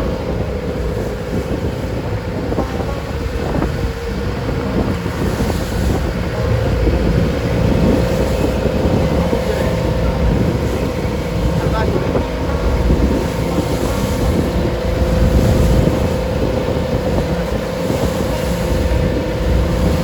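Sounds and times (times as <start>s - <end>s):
boat engine drone: 0.0s - 20.0s
water rushing: 0.0s - 20.0s
wind buffeting microphone: 0.0s - 20.0s.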